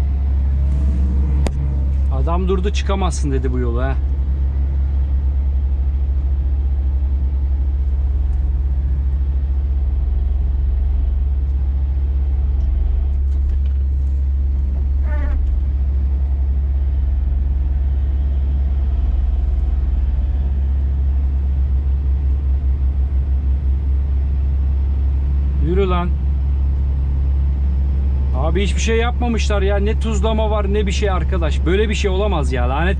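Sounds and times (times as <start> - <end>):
truck diesel engine drone: 0.0 - 32.9.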